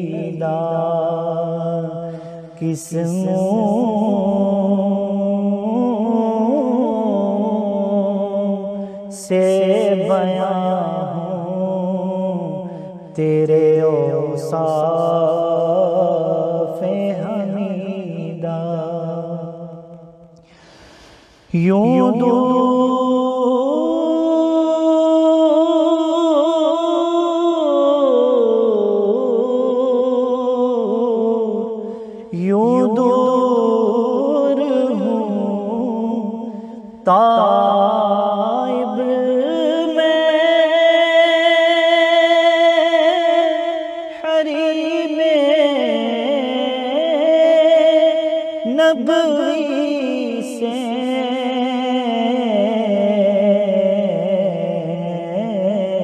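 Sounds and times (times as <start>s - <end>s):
man singing unaccompanied: 0.0s - 20.5s, 21.3s - 56.0s.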